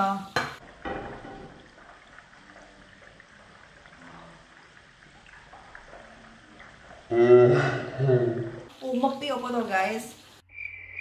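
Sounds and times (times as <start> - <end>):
faint cooking hiss: 0.0 - 10.5.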